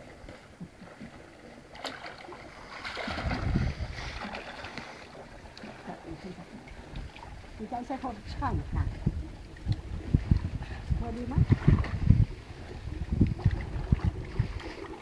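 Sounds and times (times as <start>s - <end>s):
pool water splashing: 0.0s - 15.0s.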